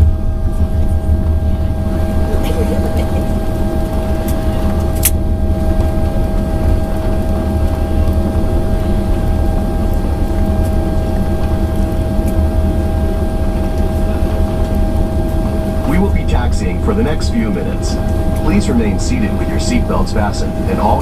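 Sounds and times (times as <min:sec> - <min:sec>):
aircraft cabin low rumble: 0:00.0 - 0:21.0
jet engine hum: 0:00.0 - 0:21.0.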